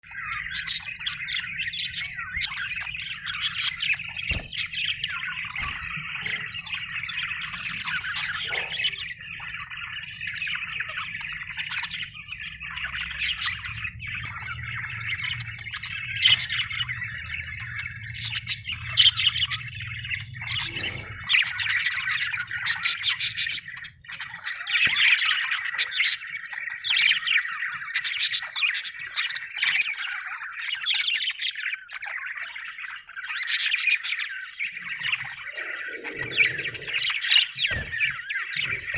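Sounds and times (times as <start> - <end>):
budgie chirping and warbling: 0.0 - 38.9.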